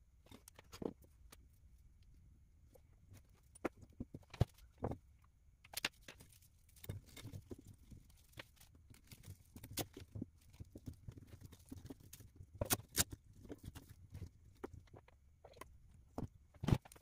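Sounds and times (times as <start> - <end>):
hands tapping and clicking parts: 2.7 - 17.0.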